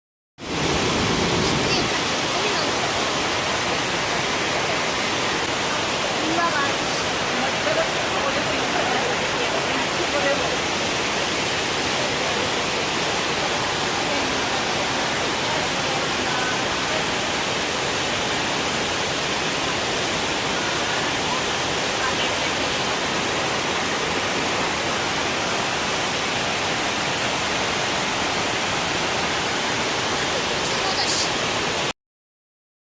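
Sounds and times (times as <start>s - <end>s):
waterfall roaring: 0.4s - 31.9s.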